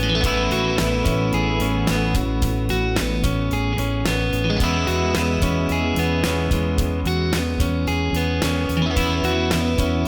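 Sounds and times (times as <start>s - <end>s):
strummed guitar music with beat: 0.0s - 10.0s.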